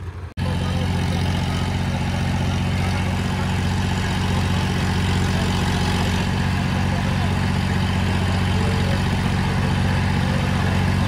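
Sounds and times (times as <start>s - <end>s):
diesel tractor engines under load: 0.0s - 11.0s.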